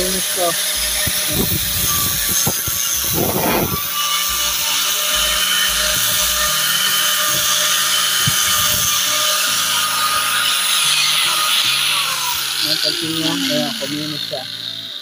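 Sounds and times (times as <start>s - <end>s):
angle grinder sanding wood: 0.0s - 15.0s.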